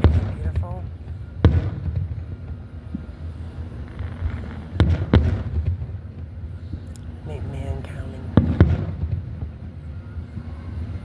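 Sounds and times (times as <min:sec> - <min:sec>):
fireworks bursting: 0:00.0 - 0:11.0
steady low rumble: 0:00.0 - 0:11.0.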